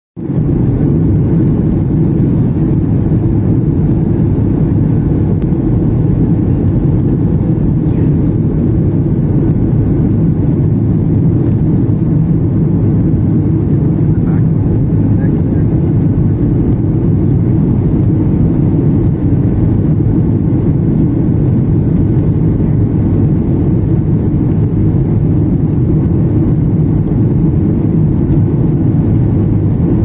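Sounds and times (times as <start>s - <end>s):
airliner engines rumbling: 0.2s - 30.0s.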